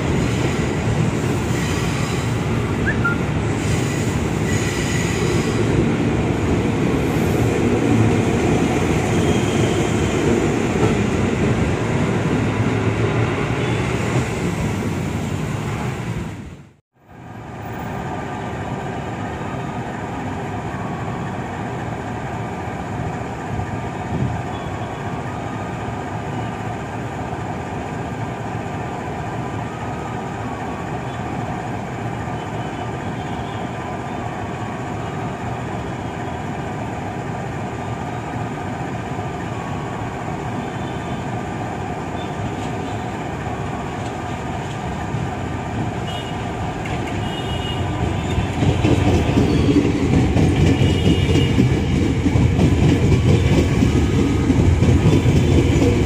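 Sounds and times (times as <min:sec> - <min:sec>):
passenger train passing: 0:00.0 - 0:56.0.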